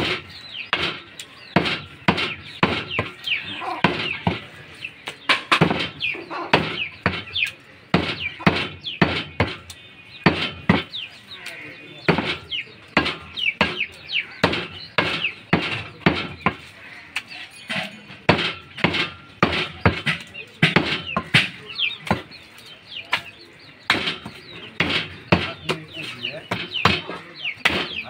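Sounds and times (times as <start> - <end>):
cleaver chopping meat on wood: 0.0 - 17.3, 18.2 - 28.0.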